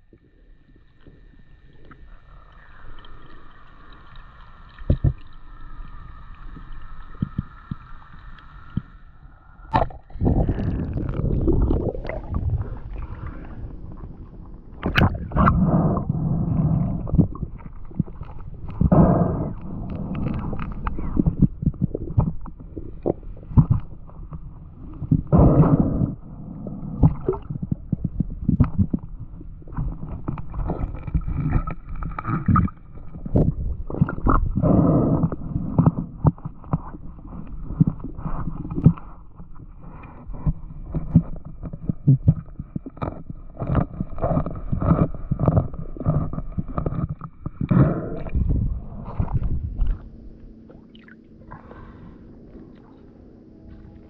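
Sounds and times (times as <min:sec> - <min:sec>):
muffled underwater water movement: 0:00.0 - 0:54.0.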